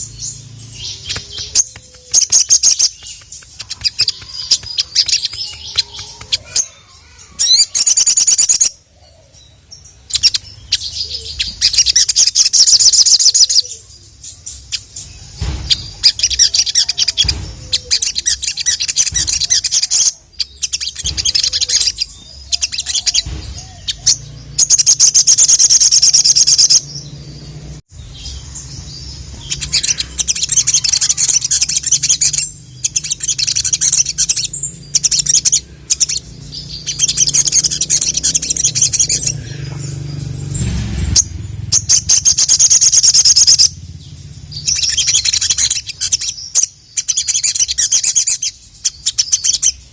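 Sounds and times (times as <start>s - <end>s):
sunbird twittering song: 0.0s - 49.9s.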